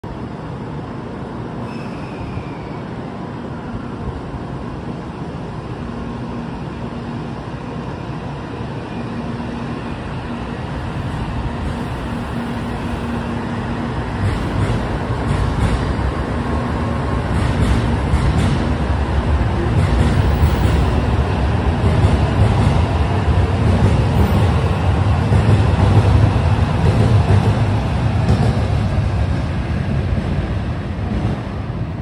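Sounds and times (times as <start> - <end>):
train wheels rumbling on rail: 0.1 - 32.0.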